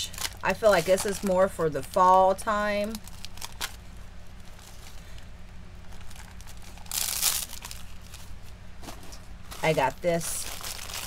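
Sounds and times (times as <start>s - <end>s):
mesh crinkling and rustling: 0.0s - 11.0s.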